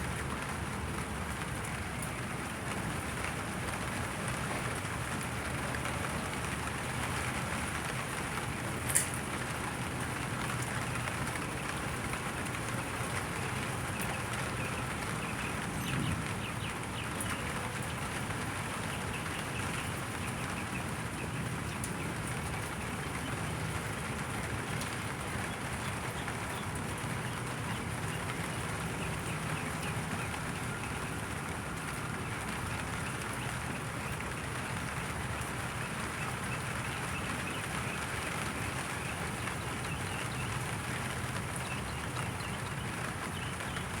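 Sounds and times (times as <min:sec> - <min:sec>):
rain patter on a surface: 0:00.0 - 0:44.0.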